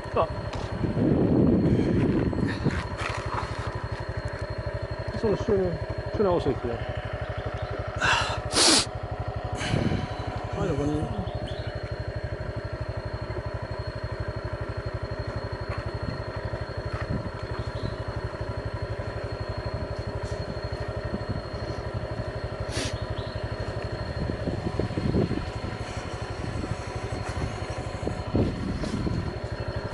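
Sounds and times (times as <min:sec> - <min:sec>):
faint high whine: 0:00.0 - 0:29.9
small motorbike engine running: 0:00.0 - 0:29.9.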